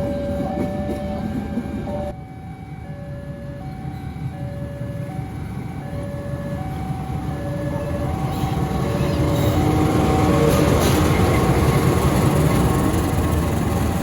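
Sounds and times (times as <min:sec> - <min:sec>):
train wheels rumbling on rail: 0:00.0 - 0:02.2, 0:03.8 - 0:14.0.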